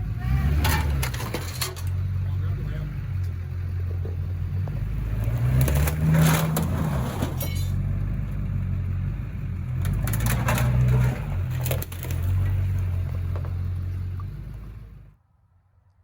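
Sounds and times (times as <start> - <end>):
diesel engine revving: 0.0 - 15.2
metal crunching and clattering: 0.4 - 8.7, 9.5 - 14.8.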